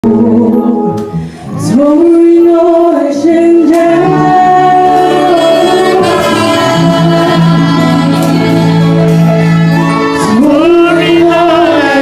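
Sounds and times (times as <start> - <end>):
choir singing gospel song: 1.6 - 12.0.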